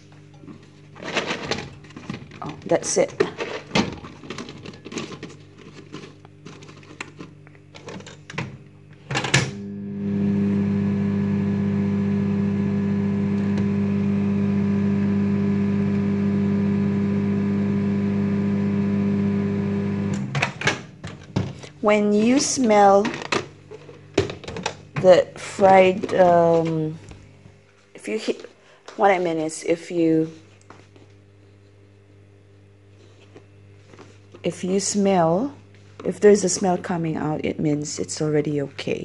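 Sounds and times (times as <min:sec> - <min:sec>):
microwave oven humming: 0:00.0 - 0:39.0.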